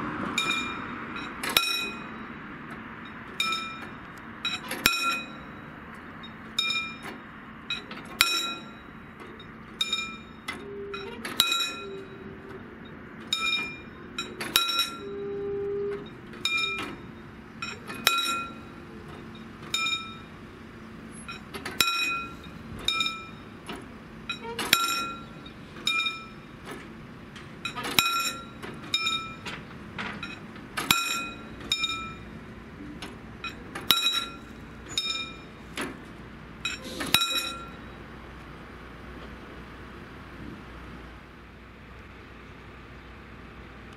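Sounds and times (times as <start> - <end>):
level crossing warning bell: 0.3 - 40.9.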